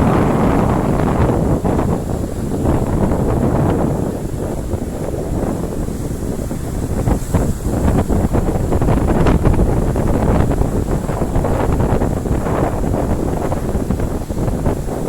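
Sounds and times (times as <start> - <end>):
sea waves: 0.0 - 15.0
wind buffeting microphone: 0.0 - 15.0.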